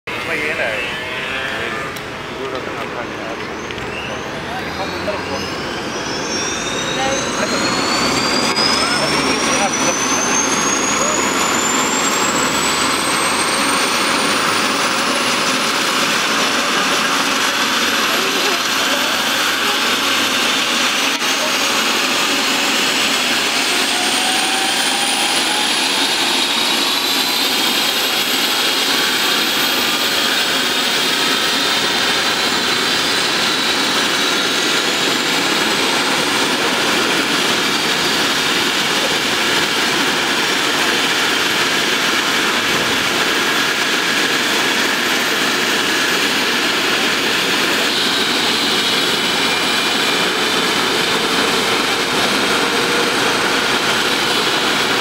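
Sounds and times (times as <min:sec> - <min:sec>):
helicopter engines rushing hiss: 0:00.1 - 0:55.0
turbine whine: 0:00.1 - 0:55.0.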